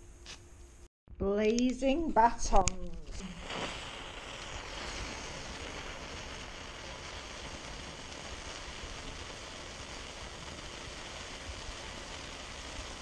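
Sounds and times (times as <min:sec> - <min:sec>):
firework hissing: 0:02.4 - 0:13.0.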